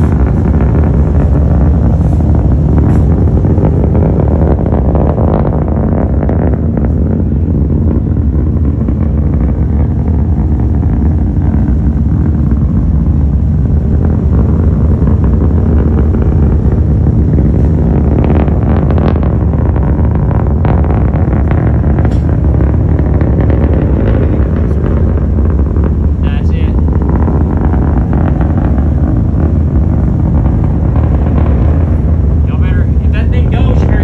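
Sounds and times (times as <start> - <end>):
distant rocket engine rumble: 0.0 - 34.0.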